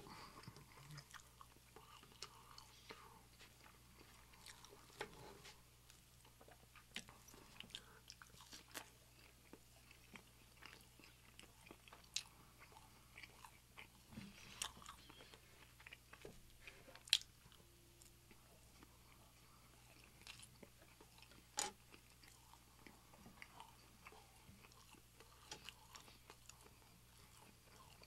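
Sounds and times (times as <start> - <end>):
chewing food: 0.0 - 28.0.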